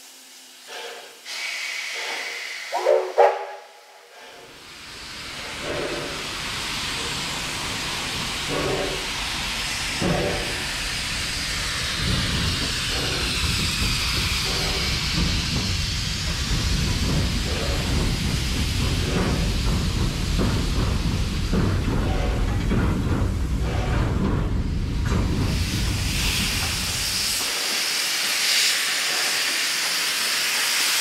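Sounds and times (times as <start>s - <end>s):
steam locomotive hissing and puffing: 0.0s - 31.0s.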